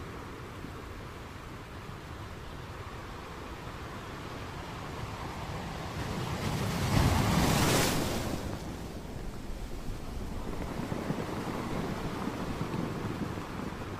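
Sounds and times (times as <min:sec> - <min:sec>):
ocean waves washing: 0:00.0 - 0:13.9.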